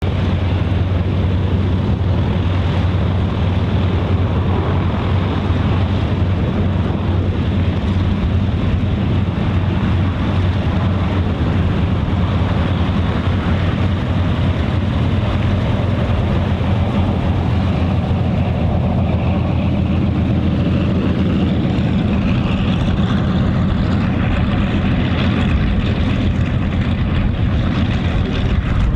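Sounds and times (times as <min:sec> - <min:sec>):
aircraft piston engines running: 0:00.0 - 0:28.9.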